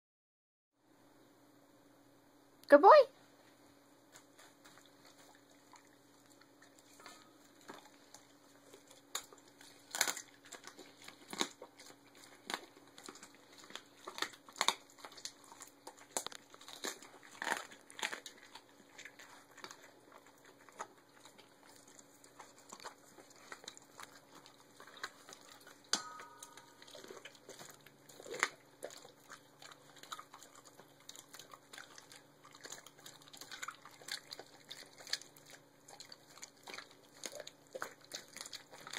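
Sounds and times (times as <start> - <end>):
dog chewing bones: 4.0 - 38.9.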